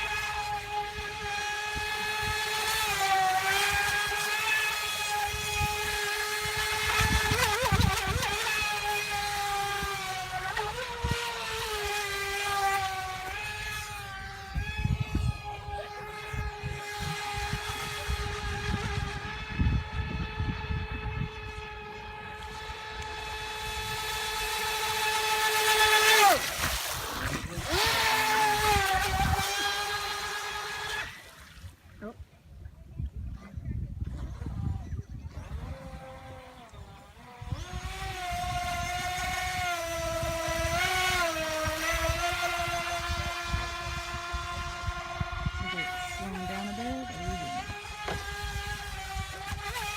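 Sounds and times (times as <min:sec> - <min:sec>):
electric motor high whine: 0:00.0 - 0:31.6, 0:34.3 - 0:49.9
wind buffeting microphone: 0:00.0 - 0:49.9.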